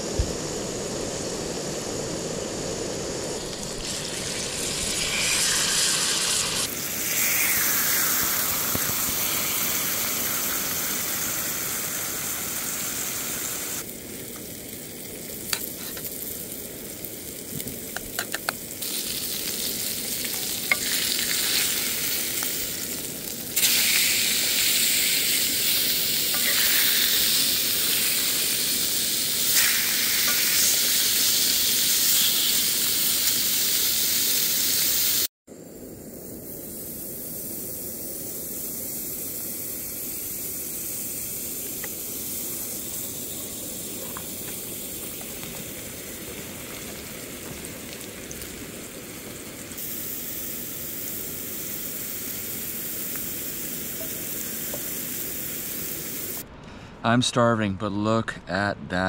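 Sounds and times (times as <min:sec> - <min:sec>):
meat sizzling in a pan: 0:03.0 - 0:35.3, 0:36.2 - 0:56.4.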